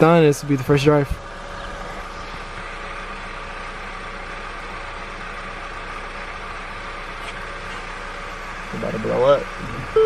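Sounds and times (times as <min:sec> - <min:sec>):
mechanical hum with low drone: 0:00.2 - 0:10.0.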